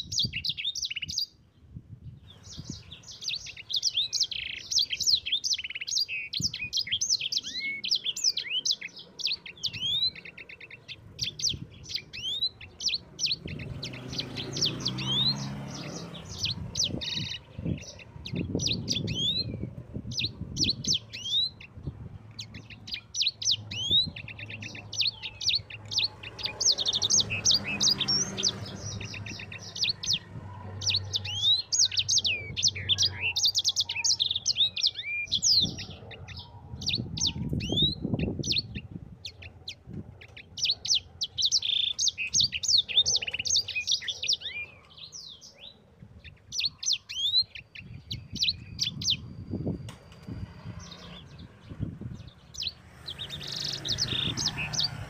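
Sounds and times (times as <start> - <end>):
canary singing: 0.0 - 1.4, 2.2 - 55.0.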